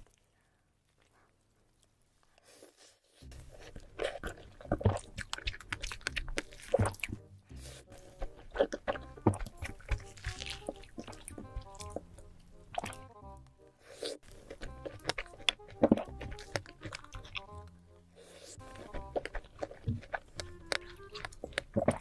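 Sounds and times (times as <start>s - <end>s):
crunchy chocolate chewing: 0.9s - 13.2s, 13.8s - 22.0s.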